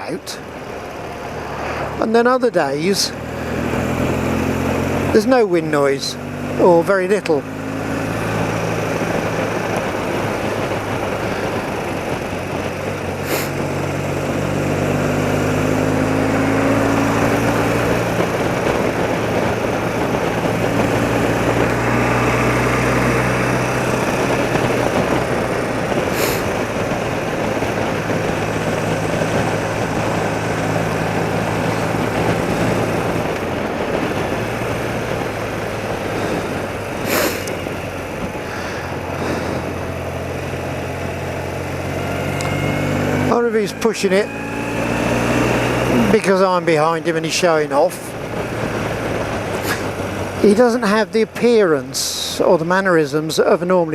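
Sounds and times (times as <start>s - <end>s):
motorcycle engine running: 0.0s - 53.8s
wind rushing on microphone: 0.0s - 53.9s.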